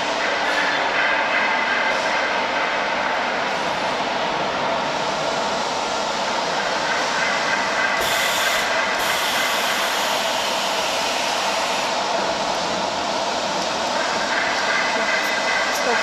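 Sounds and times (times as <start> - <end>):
induction furnace running: 0.0 - 16.0.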